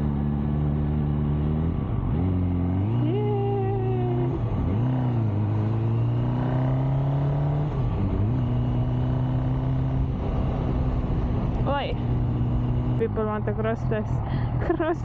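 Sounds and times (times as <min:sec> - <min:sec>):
city traffic: 0:00.0 - 0:15.0
motorcycle engine running: 0:00.0 - 0:15.0.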